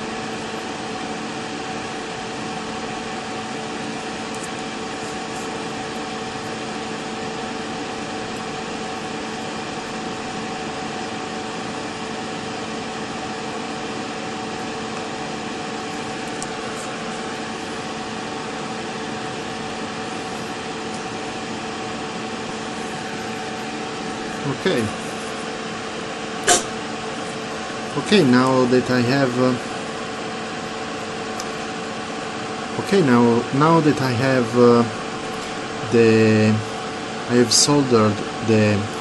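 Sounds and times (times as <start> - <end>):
steady machine hum: 0.0 - 39.0.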